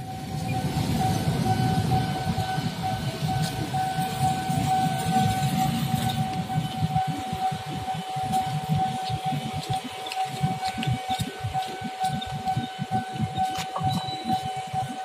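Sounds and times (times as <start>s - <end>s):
continuous high-pitched tone: 0.0s - 15.0s
motorcycle engines in traffic: 0.0s - 15.0s.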